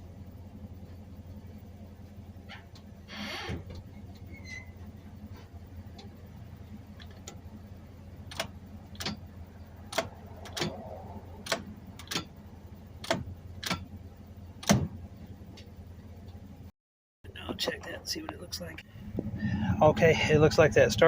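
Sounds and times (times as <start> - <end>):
steady low hum: 0.0 - 16.7, 17.3 - 21.0.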